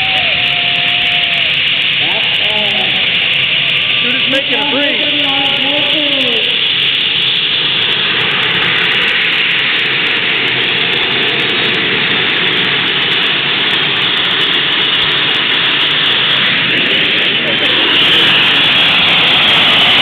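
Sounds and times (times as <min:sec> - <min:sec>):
loud racing engine: 0:00.0 - 0:20.0.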